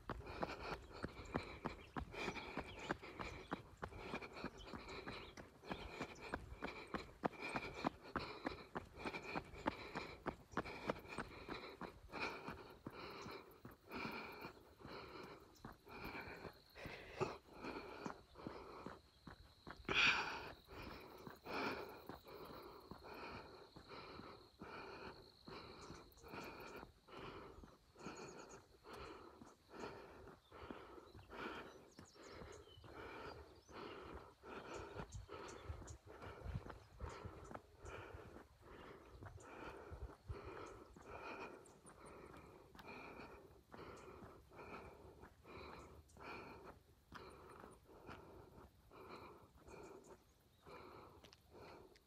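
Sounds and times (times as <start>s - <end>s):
person breathing hard: 0.0s - 52.0s.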